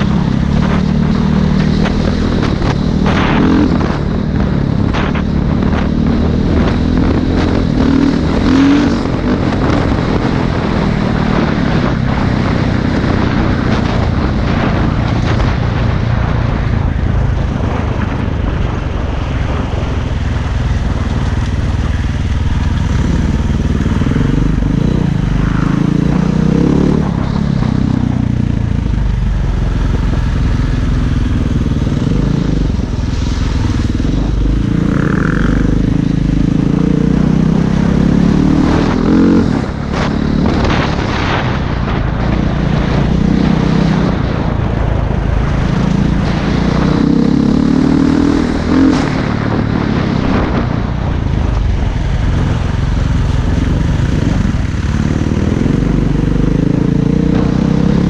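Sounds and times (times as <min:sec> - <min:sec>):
dirt bike engine revving: 0:00.0 - 0:15.7, 0:19.4 - 0:44.4, 0:45.4 - 0:50.7, 0:51.4 - 0:58.0.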